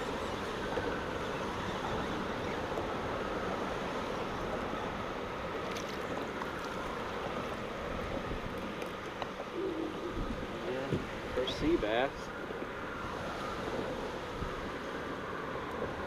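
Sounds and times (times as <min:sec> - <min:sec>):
water slapping around kayak: 0:00.0 - 0:16.0
wind buffeting microphone: 0:00.0 - 0:16.0.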